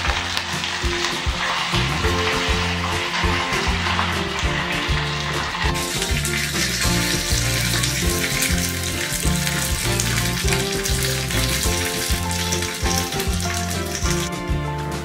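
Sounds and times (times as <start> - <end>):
leaves and chillies sizzling in oil: 0.0 - 14.3
background music with bass line: 0.0 - 15.0.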